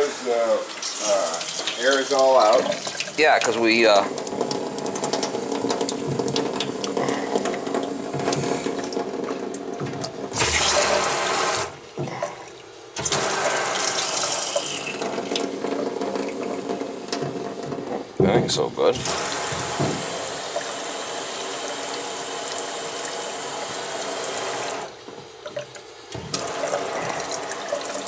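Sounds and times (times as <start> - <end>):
water running from a tap: 0.0 - 28.0.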